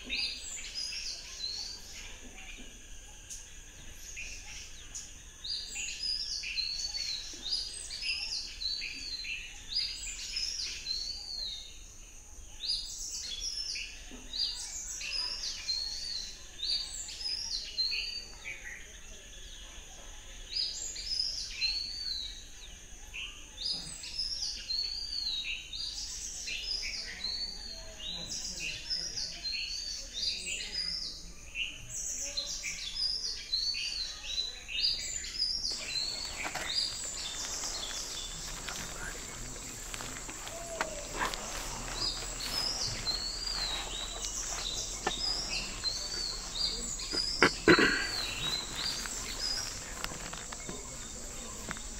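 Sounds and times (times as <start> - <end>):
chorus of birds chirping: 0.0 - 51.9.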